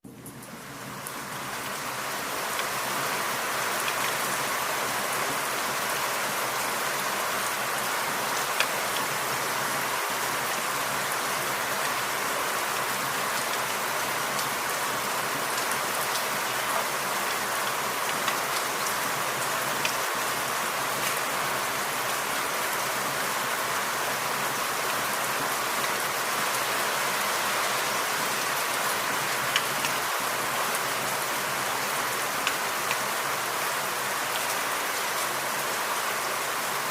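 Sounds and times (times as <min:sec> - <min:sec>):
individual raindrops: 0:00.0 - 0:36.9
rain hiss in forest: 0:00.0 - 0:36.9.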